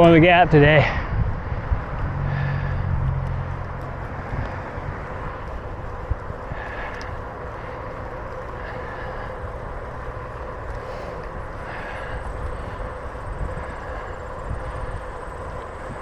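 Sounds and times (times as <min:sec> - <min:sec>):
bicycle tyres humming on pavement: 0:00.0 - 0:16.0
wind rushing over microphone: 0:00.0 - 0:16.0.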